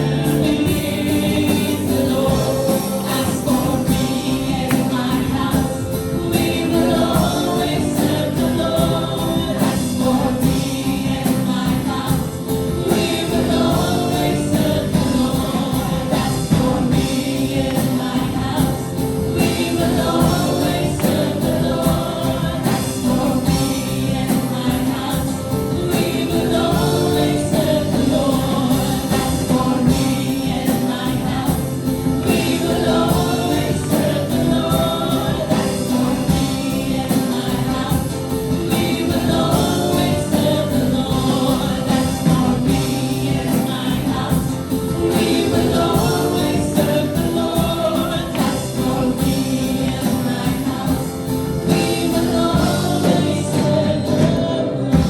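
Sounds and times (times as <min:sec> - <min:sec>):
full band with steady beat: 0:00.0 - 0:55.0
singers in gospel harmony: 0:00.0 - 0:55.0.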